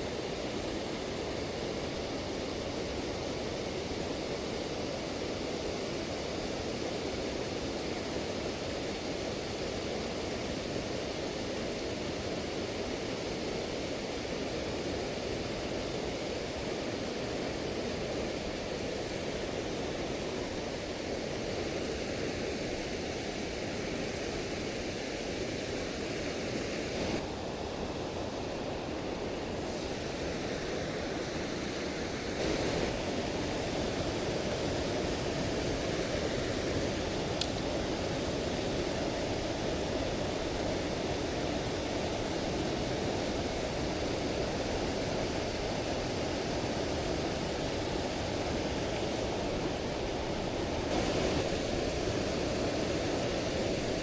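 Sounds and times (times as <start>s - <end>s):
river and waterfall roar: 0.0s - 54.0s.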